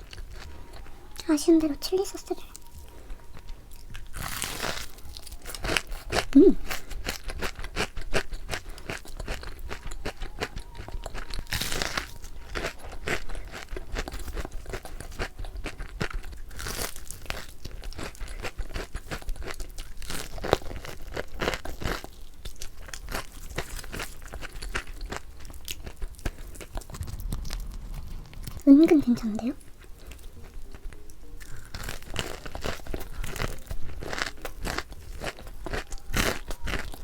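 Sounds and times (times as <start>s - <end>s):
crunching and chewing fried chicken: 0.0s - 37.0s.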